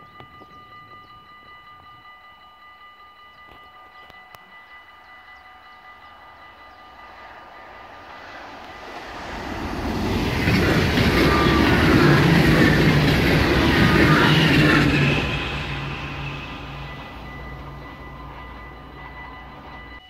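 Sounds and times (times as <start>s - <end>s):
electric train passing at speed: 0.0s - 20.0s.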